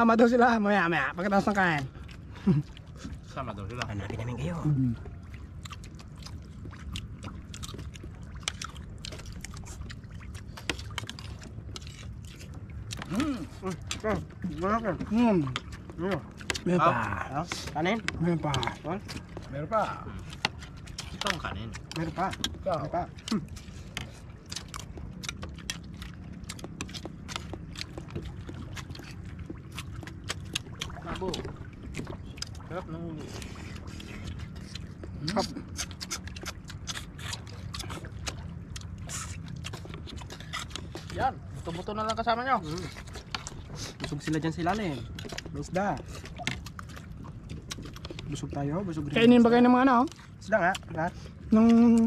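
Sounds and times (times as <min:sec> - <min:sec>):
low steady rumble: 0:00.0 - 0:52.0
water splashing against boat hull: 0:00.0 - 0:52.0.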